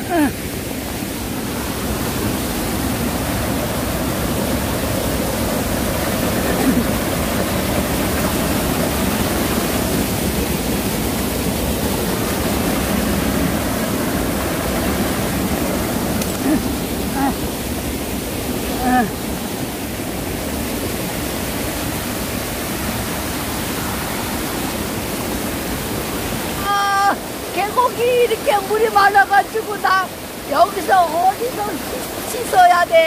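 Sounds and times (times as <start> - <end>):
water rushing over rocks: 0.0 - 33.0.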